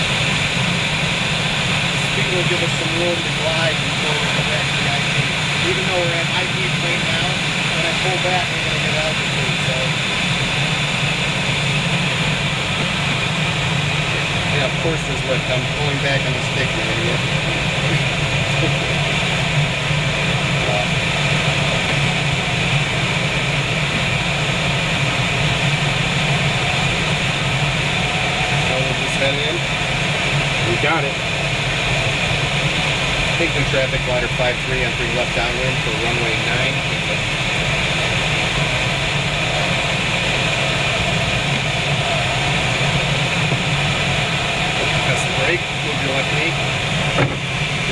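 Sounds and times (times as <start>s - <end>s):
rushing airflow in cockpit: 0.0s - 47.9s.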